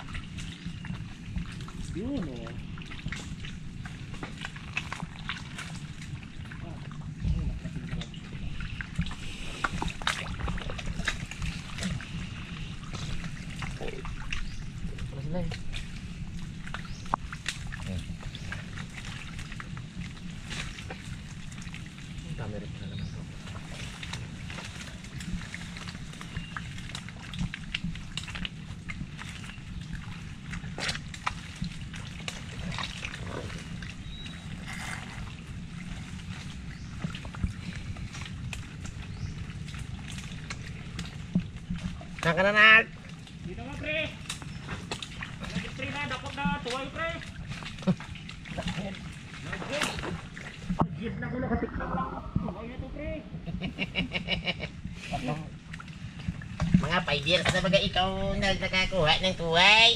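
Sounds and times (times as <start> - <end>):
small splashes and clicks: 0.0 - 50.9, 55.5 - 58.0
low rumble: 0.0 - 59.9
shallow water sloshing: 0.0 - 59.9.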